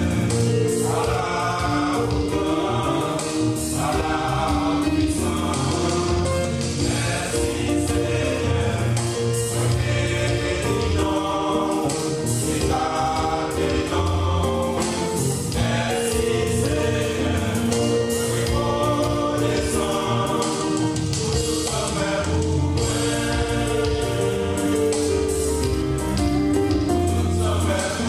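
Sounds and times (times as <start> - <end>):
male choir singing gospel: 0.0 - 28.0.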